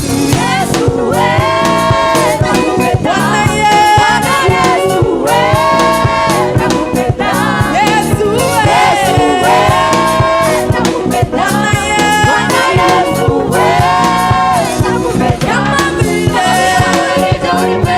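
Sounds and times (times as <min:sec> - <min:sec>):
backing voices holding notes: 0:00.0 - 0:17.9
band playing drums bass keyboard: 0:00.0 - 0:17.9
lead vocal singing: 0:00.0 - 0:17.9.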